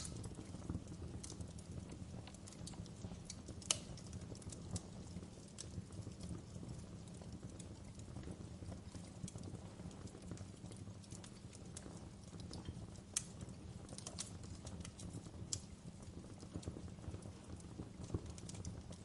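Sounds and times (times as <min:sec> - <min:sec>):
fire pops and snaps: 0:00.0 - 0:19.0
wood fire crackling: 0:00.0 - 0:19.0.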